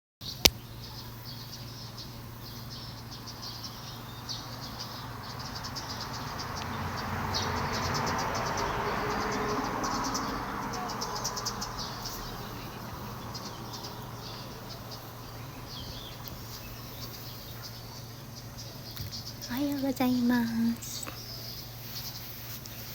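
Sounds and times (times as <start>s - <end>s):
small birds chirping: 0.2s - 22.9s.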